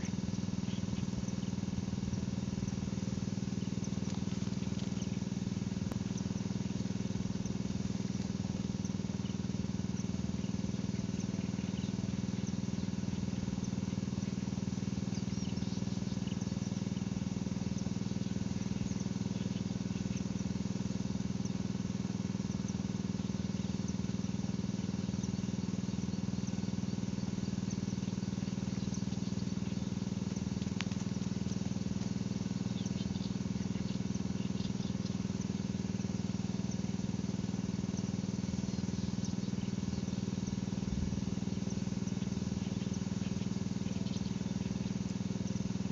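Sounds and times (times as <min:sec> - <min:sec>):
constant low rumble: 0:00.0 - 0:45.9
faint high chirps: 0:00.0 - 0:45.9.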